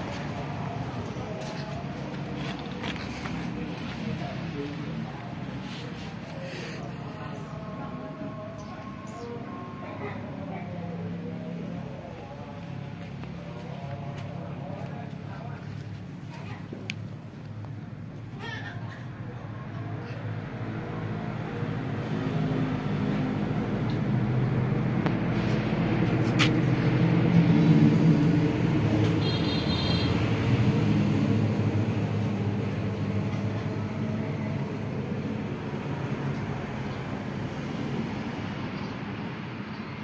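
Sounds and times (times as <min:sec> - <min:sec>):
vehicle engine passing by: 0:00.0 - 0:16.2, 0:19.1 - 0:40.0.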